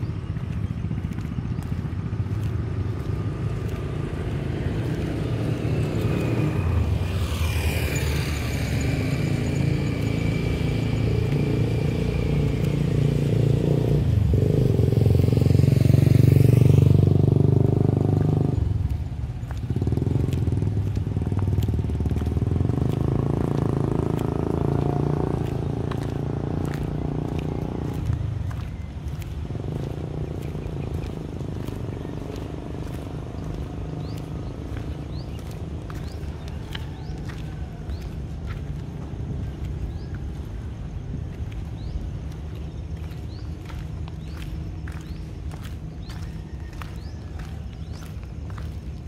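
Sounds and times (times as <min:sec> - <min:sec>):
steady low rumble: 0:00.0 - 0:16.0, 0:16.6 - 0:49.0
motor vehicle passing: 0:00.0 - 0:49.0.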